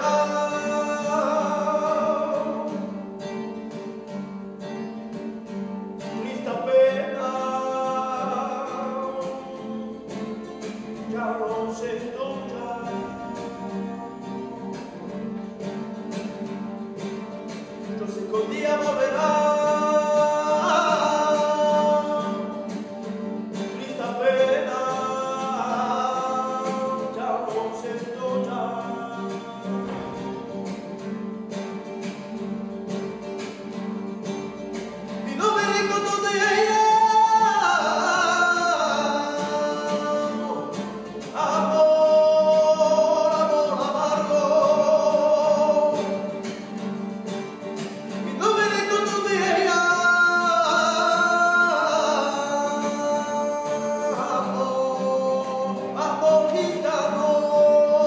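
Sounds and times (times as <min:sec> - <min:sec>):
man singing: 0:00.0 - 0:04.1, 0:05.1 - 0:31.1, 0:33.1 - 0:58.0
nylon-string guitar strumming: 0:00.0 - 0:58.0.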